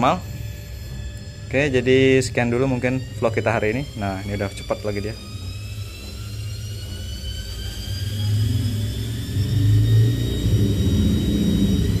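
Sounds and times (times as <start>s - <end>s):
washing machine motor whine: 0.0s - 12.0s.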